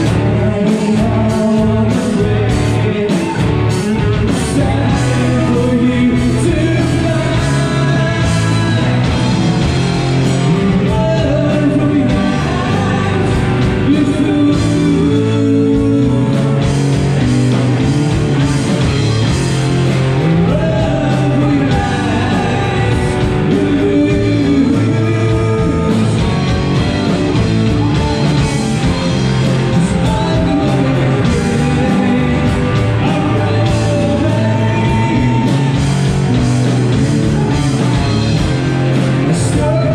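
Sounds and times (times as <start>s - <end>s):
drum kit: 0.0s - 39.9s
electric guitars: 0.0s - 39.9s
person singing: 0.0s - 39.9s.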